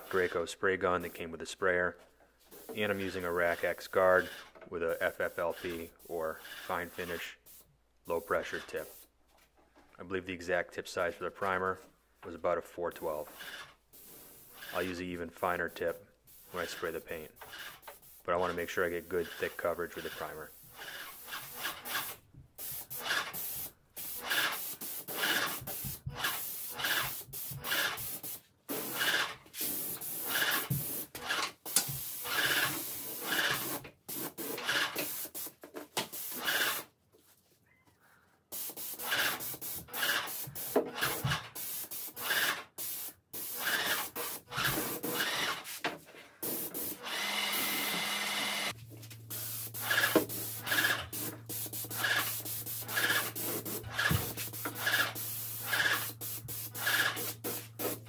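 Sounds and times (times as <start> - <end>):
paint sprayer hissing: 0.0 - 1.3, 2.4 - 9.1, 12.9 - 36.8, 38.5 - 45.8, 46.4 - 58.0.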